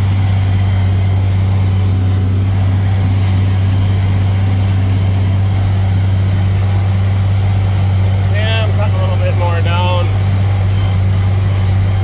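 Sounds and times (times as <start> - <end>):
tractor engine drone: 0.0 - 12.0.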